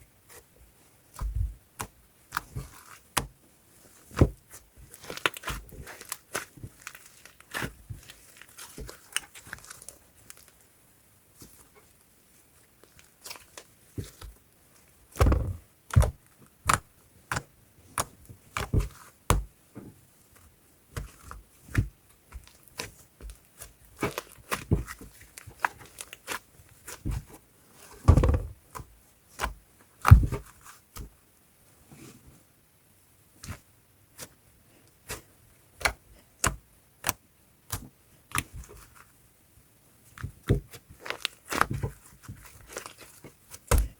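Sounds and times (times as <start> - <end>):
slime squishing with sticky pops: 1.1 - 10.6, 12.8 - 19.6, 20.3 - 31.2, 33.4 - 39.2, 40.0 - 43.9.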